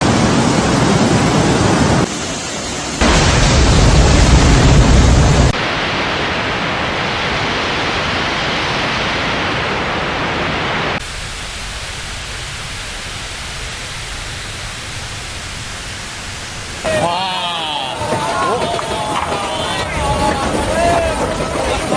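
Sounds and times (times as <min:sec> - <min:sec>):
floodwater rushing: 0:00.0 - 0:17.9
heavy rain: 0:00.0 - 0:21.9.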